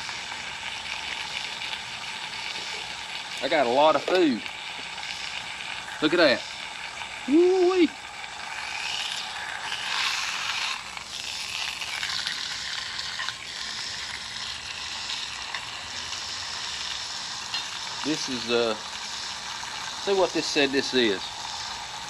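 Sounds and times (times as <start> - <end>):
ham sizzling in oil: 0.0 - 22.0.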